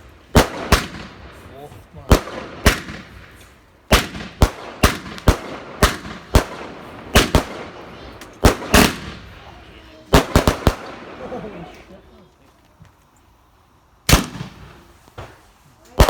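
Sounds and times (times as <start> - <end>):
fireworks bangs with echo: 0.0 - 11.7, 14.1 - 16.0.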